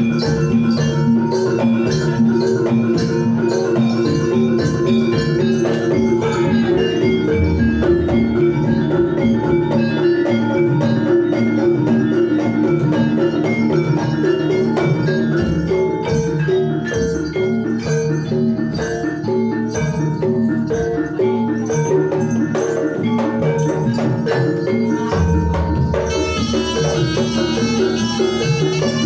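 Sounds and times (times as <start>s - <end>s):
drumming: 0.0s - 29.0s
gamelan metal keys: 0.0s - 29.0s.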